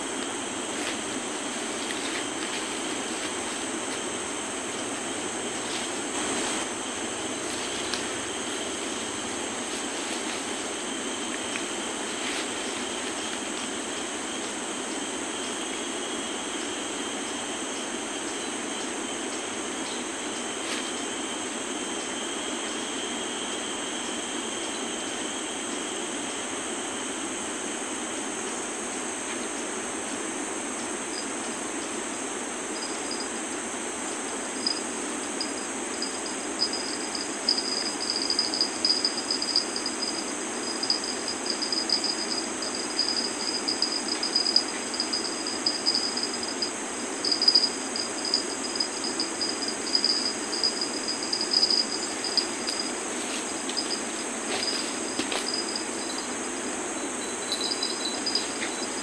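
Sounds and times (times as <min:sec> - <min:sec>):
background hiss: 0:00.0 - 0:59.0
insects chirring: 0:00.0 - 0:59.0.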